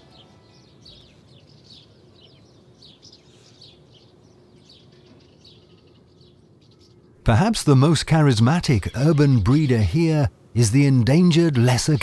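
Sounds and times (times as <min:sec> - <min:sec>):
house martins twittering: 0:00.0 - 0:12.0.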